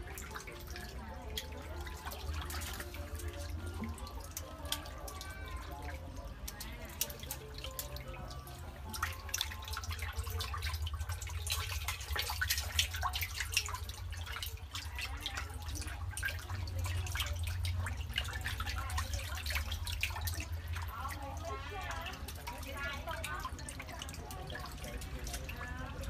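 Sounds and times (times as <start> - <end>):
fish splashing in shallow water: 0.0 - 26.0.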